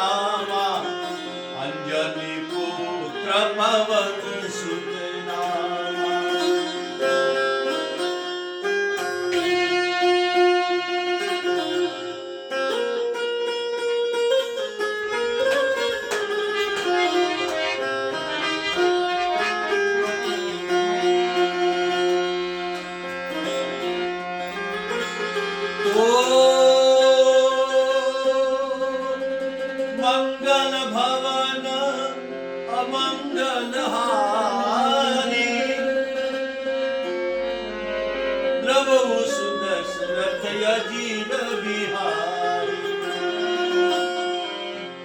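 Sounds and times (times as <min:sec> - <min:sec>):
devotional instrumental melody: 0:00.0 - 0:45.0
plucked string accompaniment: 0:00.0 - 0:45.0.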